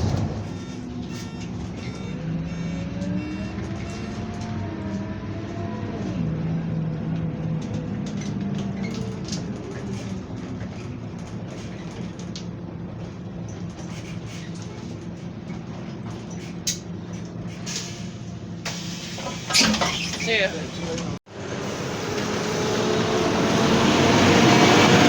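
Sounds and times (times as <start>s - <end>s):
bus diesel engine: 0.0s - 25.0s.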